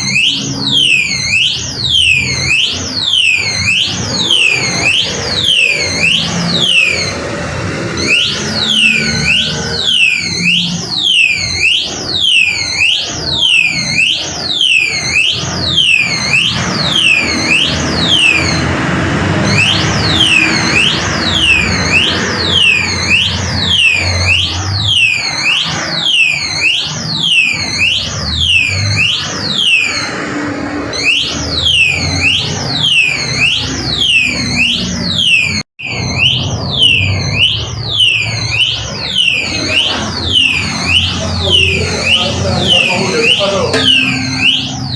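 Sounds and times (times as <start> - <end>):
motorcycle alarm whooping: 0.0 - 44.9.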